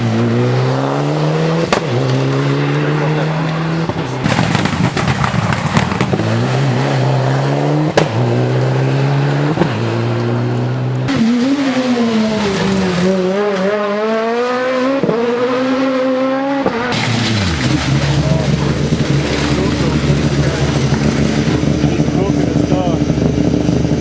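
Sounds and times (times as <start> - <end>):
rally car engine at high revs: 0.0 - 24.0.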